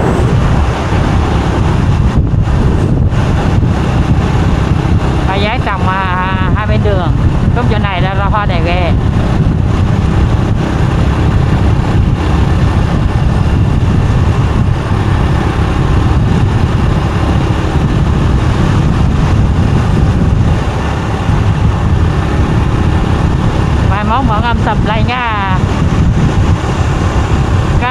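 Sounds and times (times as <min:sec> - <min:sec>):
motorbike engine: 0:00.0 - 0:27.9
road noise: 0:00.0 - 0:27.9
wind buffeting microphone: 0:00.0 - 0:27.9.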